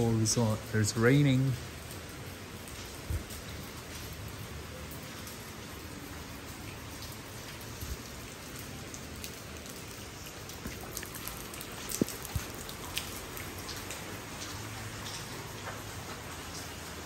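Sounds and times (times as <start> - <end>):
rain on wet paving: 0.0 - 17.0
water drips and taps: 0.1 - 17.0.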